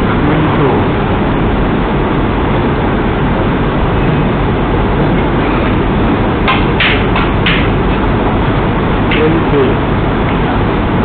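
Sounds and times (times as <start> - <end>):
low hum: 0.0 - 11.0
rushing room noise: 0.0 - 11.0.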